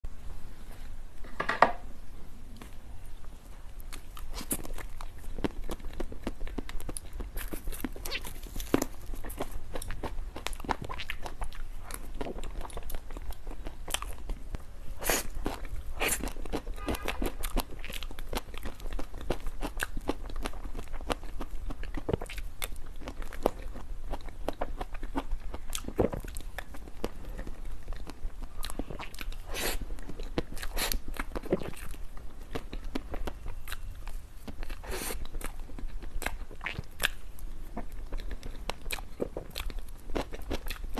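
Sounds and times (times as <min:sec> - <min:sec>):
close-miked chewing crackles: 0:02.5 - 0:40.9.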